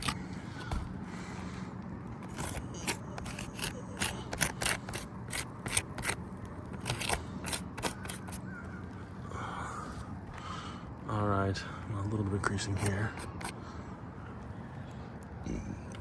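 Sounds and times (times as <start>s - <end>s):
roof shingles crackling and scraping: 0.0s - 16.0s.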